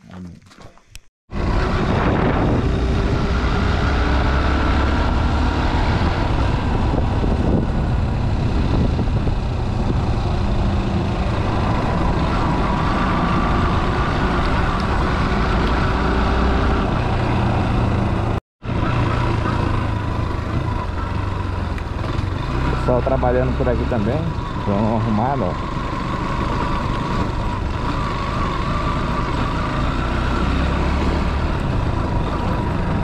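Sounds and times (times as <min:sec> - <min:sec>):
vehicle engine and road rumble: 0:00.0 - 0:33.0.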